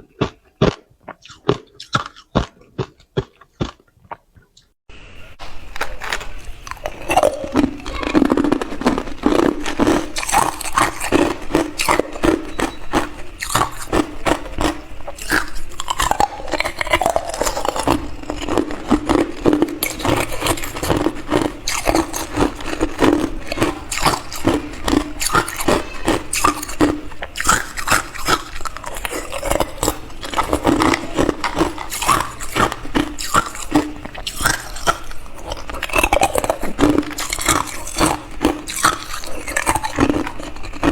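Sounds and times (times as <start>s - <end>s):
ice crunching being chewed: 0.0s - 4.8s, 5.4s - 40.9s.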